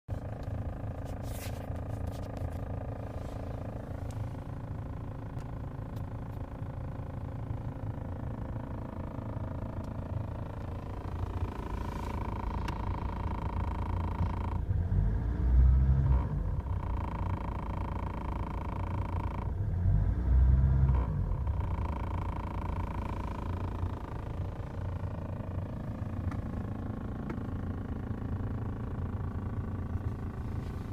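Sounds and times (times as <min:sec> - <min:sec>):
running car noise: 0:00.1 - 0:30.9.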